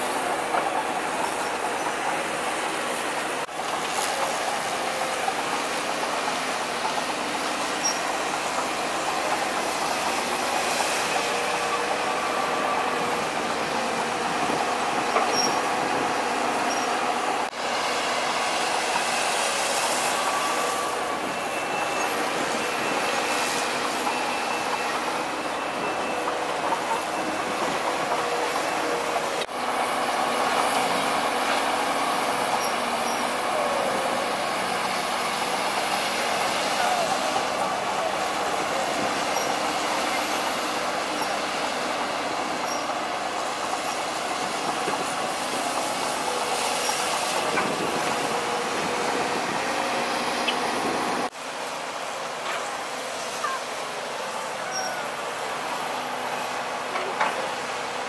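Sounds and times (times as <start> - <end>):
crawler tracks clanking and squeaking: 0.0 - 58.0
diesel engines running: 0.0 - 58.0.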